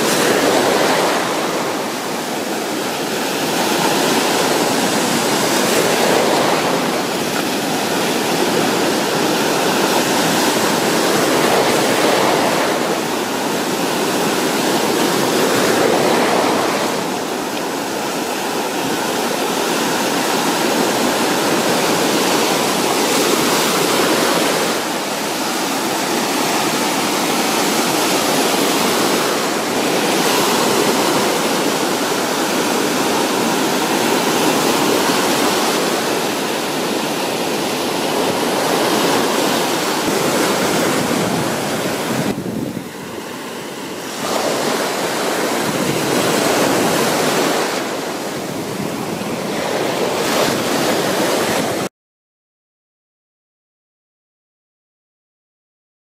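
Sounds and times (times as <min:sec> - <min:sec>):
surf breaking on beach: 0:00.0 - 0:51.9.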